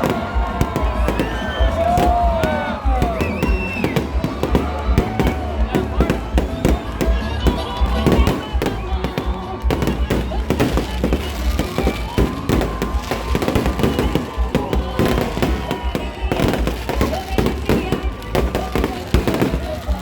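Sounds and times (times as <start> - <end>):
background music: 0.0 - 20.0
bonfire crackling: 0.0 - 20.0
voices: 0.0 - 20.0.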